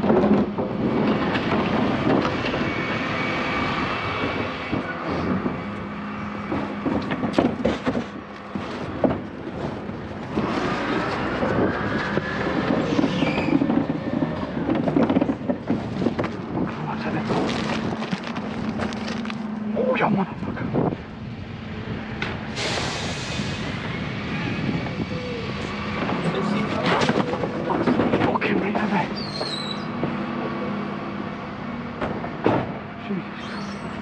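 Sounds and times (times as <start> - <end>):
refuse truck running: 0.0 - 34.0.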